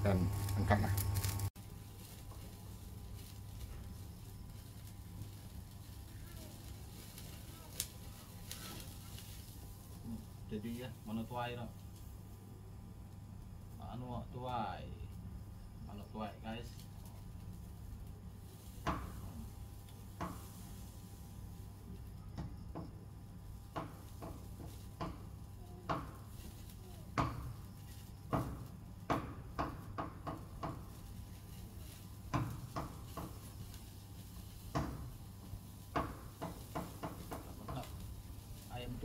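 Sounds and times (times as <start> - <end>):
sharp pops from fire: 0.0 - 12.5, 16.4 - 39.0
cooking fire crackling: 0.0 - 39.0.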